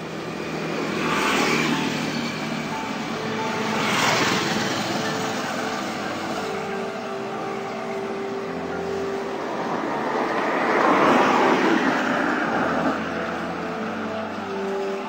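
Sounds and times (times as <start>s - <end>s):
vehicle passing by: 0.4s - 14.6s.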